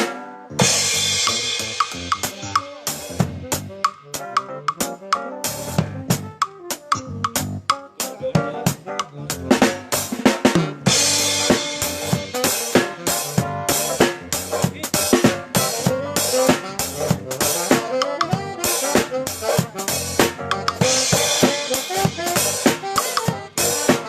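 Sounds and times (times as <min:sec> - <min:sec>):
drum kit snare and cymbals: 0:00.0 - 0:24.0
live band playing: 0:00.0 - 0:24.0.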